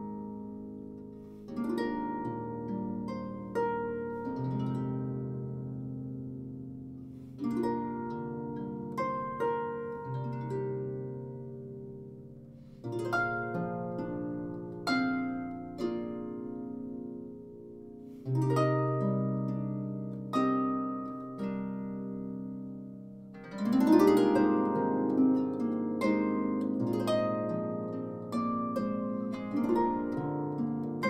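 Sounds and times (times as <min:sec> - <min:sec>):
lever harp playing slow melody: 0:00.0 - 0:31.0.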